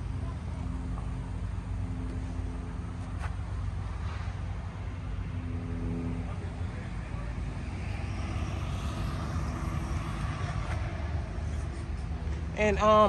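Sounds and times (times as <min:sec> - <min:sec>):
engine hum: 0:00.0 - 0:13.0
vehicle passing: 0:00.0 - 0:13.0.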